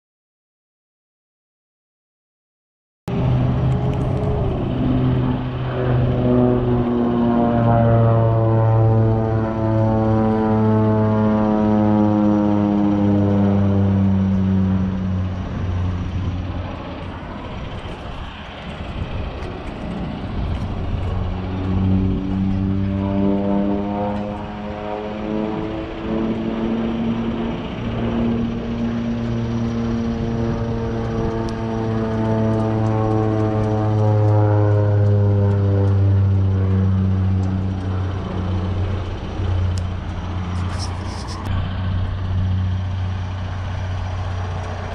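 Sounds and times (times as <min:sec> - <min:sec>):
propeller airplane engine drone: 0:03.1 - 0:44.9.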